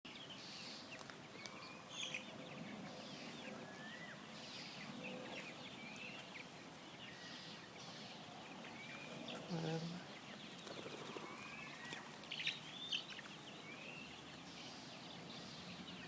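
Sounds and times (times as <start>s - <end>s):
birds chirping: 0.1s - 16.0s.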